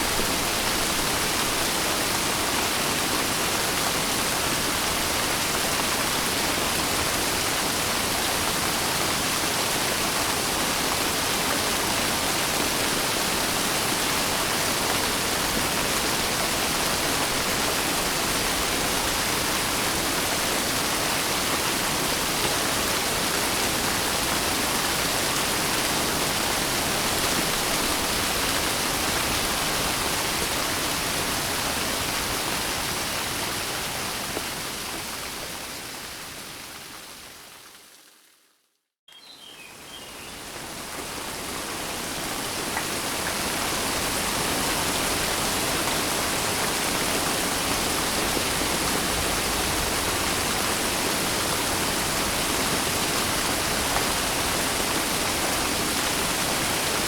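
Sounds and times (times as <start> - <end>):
steady rain: 0.0 - 38.4, 39.6 - 57.0.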